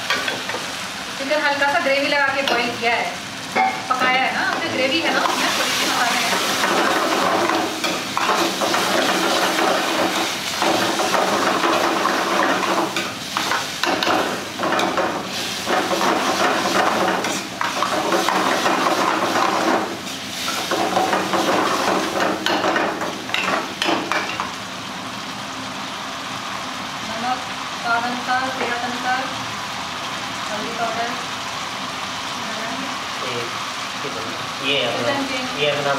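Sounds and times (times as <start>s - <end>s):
food sizzling: 0.0s - 35.9s.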